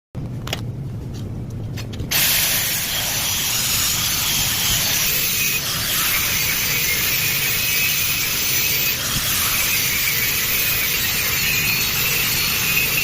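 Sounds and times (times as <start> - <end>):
vacuum pump motor hissing: 2.1 - 13.0.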